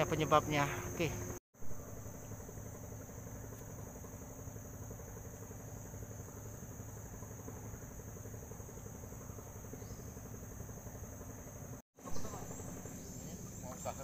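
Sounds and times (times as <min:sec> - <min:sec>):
high insect drone: 0:00.0 - 0:14.0
low engine-like rumble: 0:00.0 - 0:14.0.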